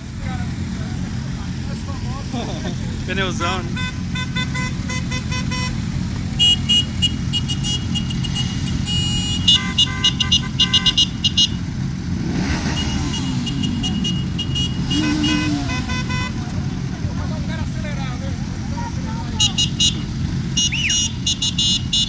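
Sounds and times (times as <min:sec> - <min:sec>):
horns beeping: 0:00.0 - 0:22.0
motorcycle engines running: 0:00.0 - 0:22.0.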